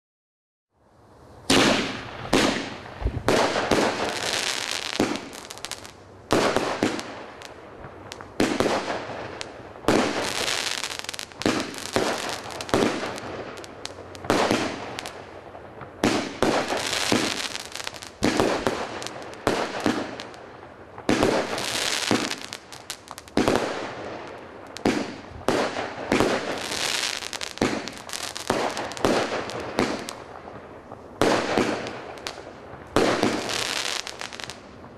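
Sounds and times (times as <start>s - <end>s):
firework bangs with crackle: 1.5s - 34.9s.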